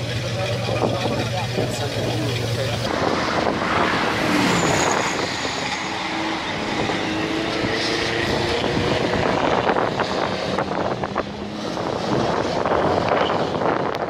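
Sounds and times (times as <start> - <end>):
car engines running: 0.0 - 14.0.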